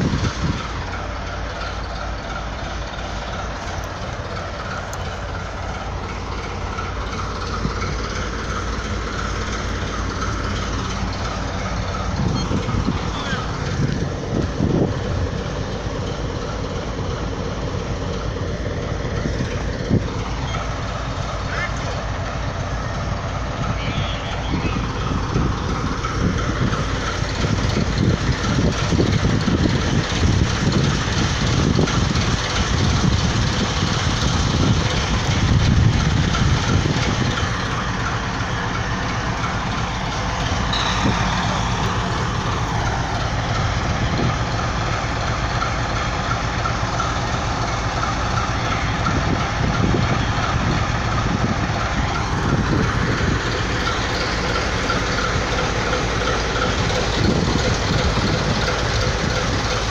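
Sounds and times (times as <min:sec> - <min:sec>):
diesel locomotive engine running: 0:00.0 - 0:59.9.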